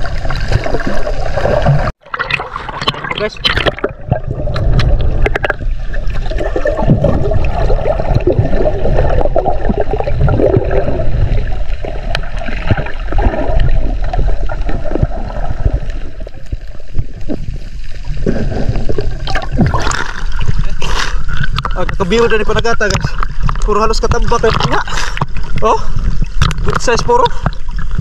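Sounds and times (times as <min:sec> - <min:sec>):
muffled underwater gurgling: 0:00.0 - 0:28.0
water splashing and sloshing: 0:00.0 - 0:28.0.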